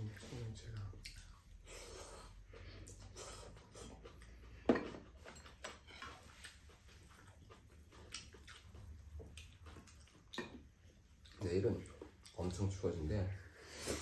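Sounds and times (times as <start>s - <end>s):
chewing: 0.1s - 12.7s.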